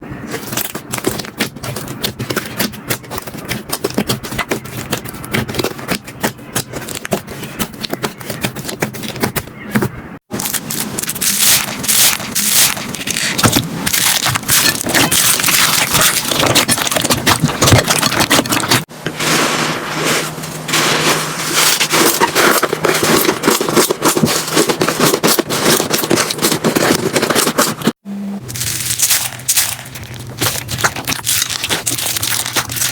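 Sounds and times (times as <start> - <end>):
slime crackling and scraping: 0.0 - 32.9.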